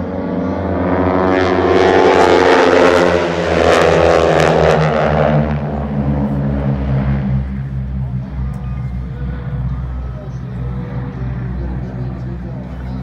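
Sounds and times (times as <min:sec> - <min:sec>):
propeller planes droning by: 0:00.0 - 0:13.0.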